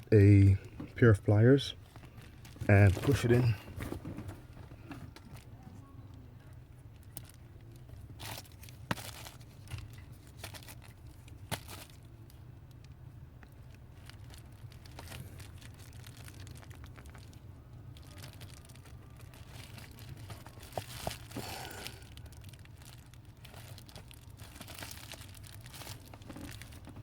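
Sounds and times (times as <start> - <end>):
steady low hum: 0.0 - 27.0
rustling and crinkling: 1.8 - 27.0.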